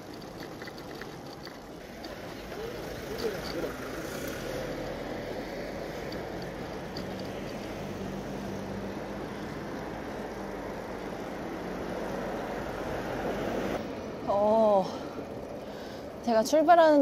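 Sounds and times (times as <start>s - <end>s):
city street traffic: 0.0s - 17.0s
faint passing vehicle engine: 1.8s - 16.6s.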